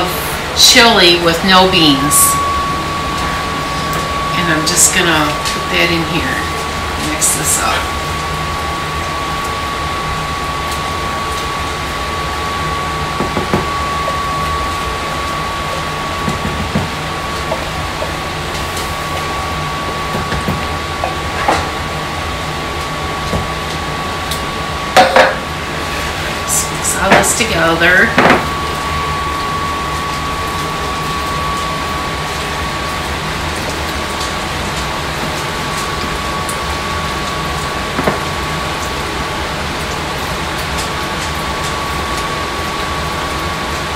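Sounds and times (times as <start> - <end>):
fan-like hiss and hum: 0.0 - 43.9
high whine: 0.0 - 43.9.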